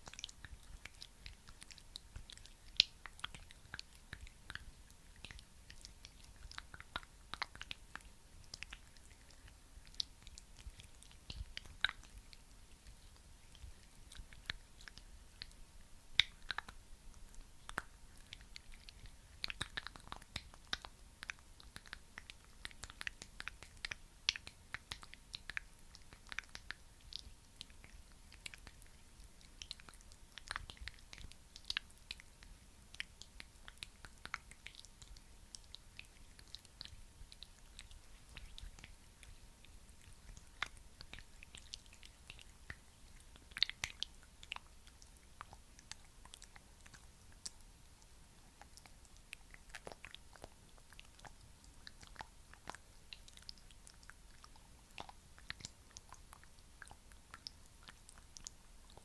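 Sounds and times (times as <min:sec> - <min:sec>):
sticky wet clicks: 0:00.0 - 0:59.0.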